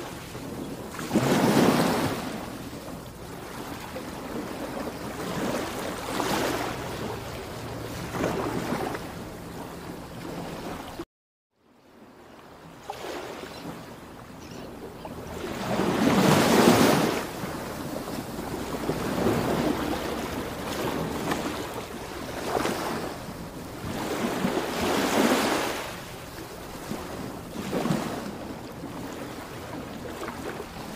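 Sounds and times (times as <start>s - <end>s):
ocean waves rushing: 0.0s - 11.0s, 12.8s - 30.9s.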